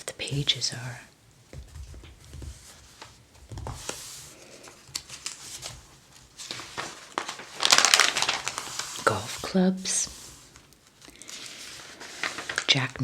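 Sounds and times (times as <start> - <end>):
paper pages rustling: 1.6 - 13.0.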